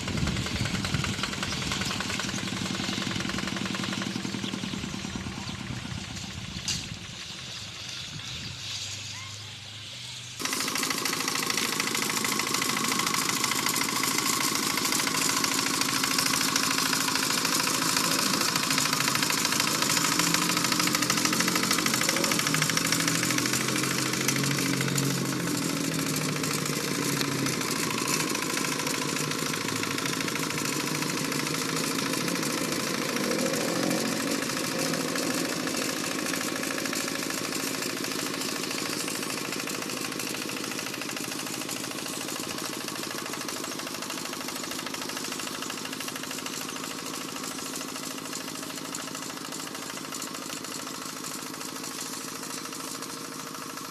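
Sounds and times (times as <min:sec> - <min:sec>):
tractor engine running: 0:00.0 - 0:09.2, 0:09.8 - 0:53.9.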